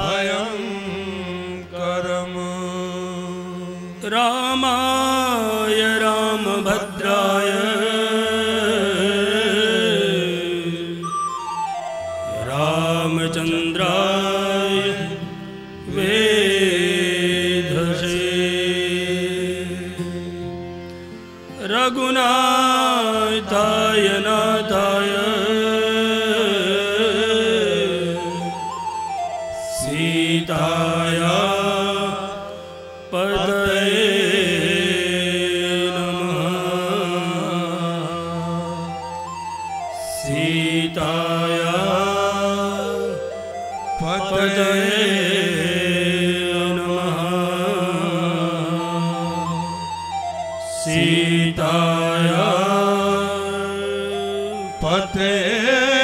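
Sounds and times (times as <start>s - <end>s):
man singing devotional chant: 0.0s - 11.2s, 12.3s - 28.8s, 29.5s - 49.8s, 50.6s - 56.0s
low musical accompaniment: 0.0s - 56.0s.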